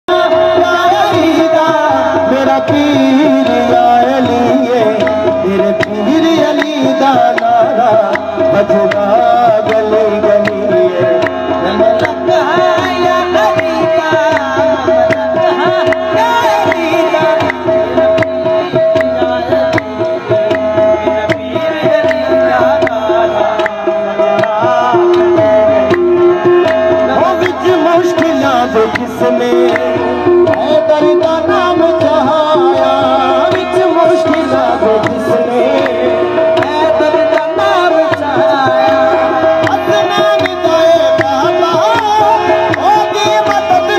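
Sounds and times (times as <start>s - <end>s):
hand drum beat: 0.1s - 43.9s
harmonium drone: 0.1s - 43.9s
people singing: 0.1s - 43.9s.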